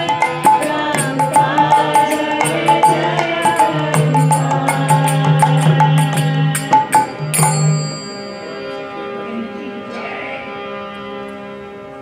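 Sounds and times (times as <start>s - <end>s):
harmonium held notes: 0.0s - 12.0s.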